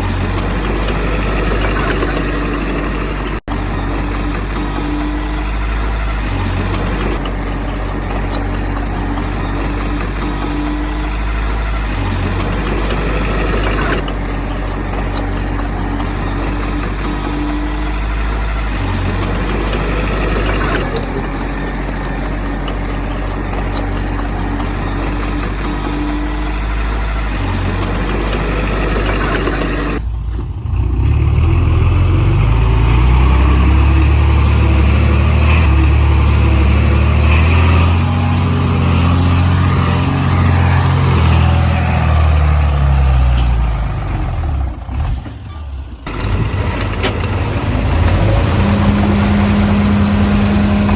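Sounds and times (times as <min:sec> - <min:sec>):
heavy diesel machinery running: 0:00.0 - 0:50.9.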